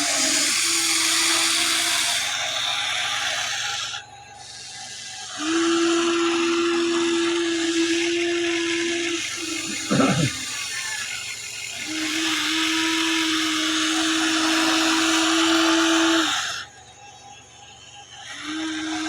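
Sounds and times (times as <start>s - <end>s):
electric motors and gearboxes whining: 0.0s - 19.0s.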